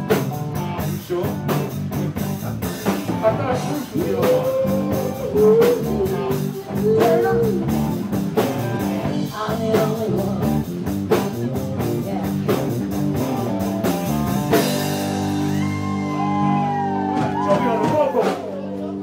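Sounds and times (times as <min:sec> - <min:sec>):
drum kit playing: 0:00.0 - 0:19.0
electric guitar: 0:00.0 - 0:19.0.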